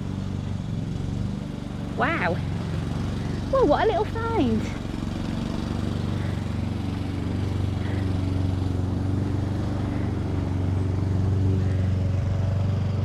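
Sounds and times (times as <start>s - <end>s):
small engine droning: 0.0s - 13.0s.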